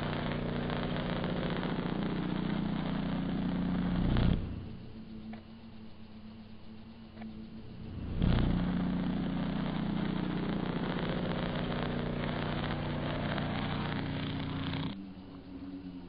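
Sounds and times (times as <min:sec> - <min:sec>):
electric arc buzzing: 0:00.0 - 0:15.0
faint low hum: 0:00.0 - 0:16.0.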